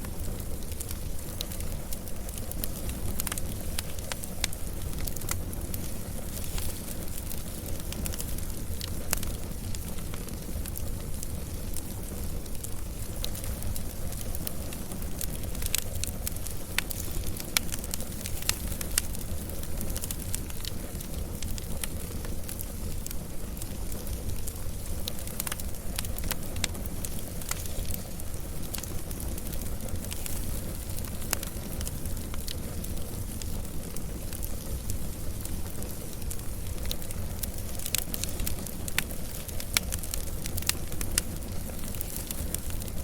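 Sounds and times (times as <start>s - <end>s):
fire crackling and popping: 0.0s - 43.0s
fire low rumble: 0.0s - 43.0s.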